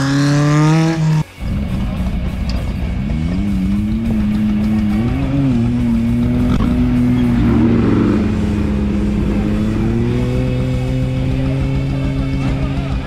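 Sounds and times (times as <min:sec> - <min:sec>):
engine revving high: 0:00.0 - 0:01.3, 0:03.0 - 0:13.0.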